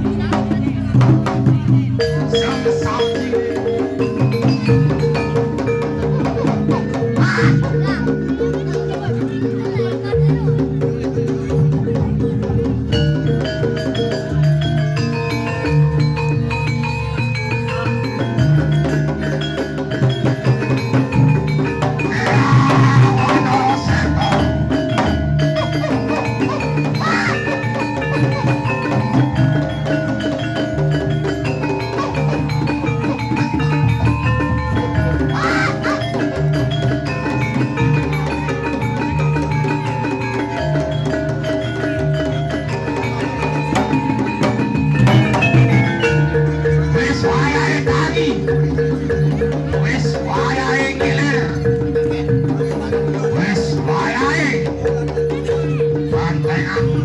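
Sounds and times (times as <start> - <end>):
kendang drumming: 0.0 - 57.0
saron and demung metallophones: 0.0 - 57.0
wavering higher melody line: 0.0 - 57.0.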